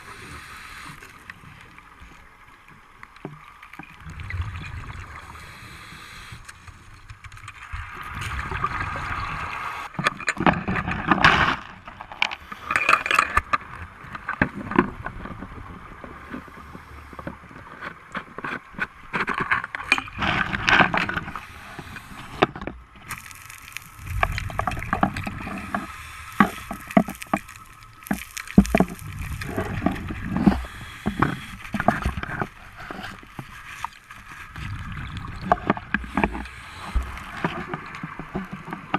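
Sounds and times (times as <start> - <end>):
underwater rushing and gurgling water: 0.0 - 38.9
clicks and knocks underwater: 0.9 - 5.4, 6.4 - 38.9.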